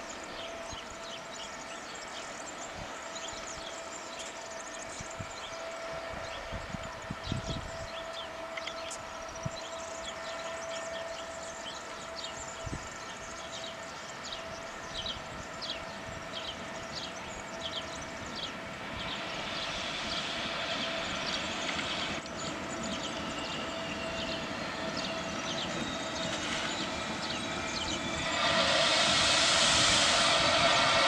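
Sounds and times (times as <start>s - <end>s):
train approaching on track: 0.0s - 31.0s
wheels rumbling on rail: 0.0s - 31.0s.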